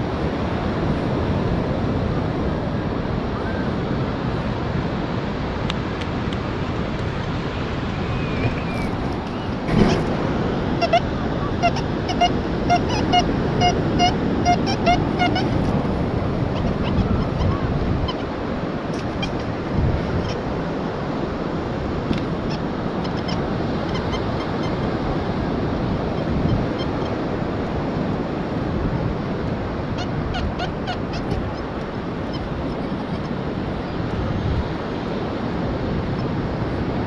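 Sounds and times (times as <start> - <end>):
surf washing on beach: 0.0 - 37.0.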